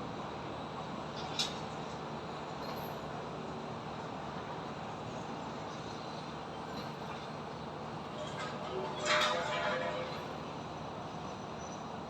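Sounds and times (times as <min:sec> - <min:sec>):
construction site noise: 0:00.0 - 0:12.0.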